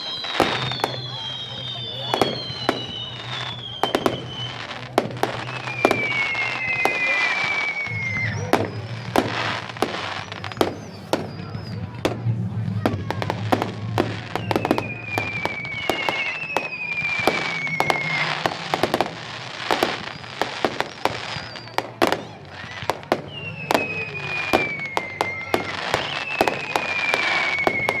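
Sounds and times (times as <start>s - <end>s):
firework bangs and crackles: 0.0s - 28.0s
firework whistles falling in pitch: 0.0s - 28.0s.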